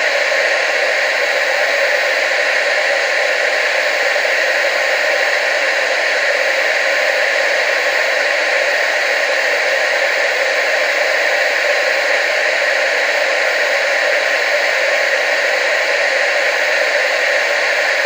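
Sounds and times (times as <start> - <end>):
tv static hiss: 0.0 - 18.0.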